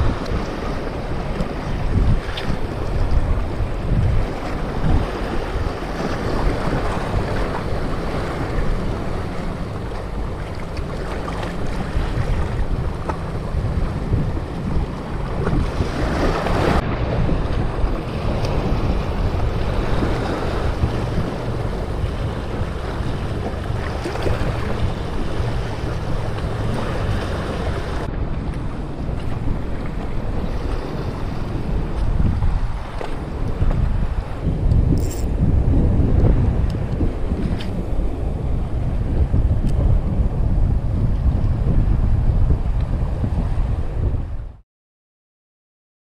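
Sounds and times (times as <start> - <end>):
waves splashing against rocks: 0.0 - 38.8
wind buffeting the microphone: 0.0 - 44.6.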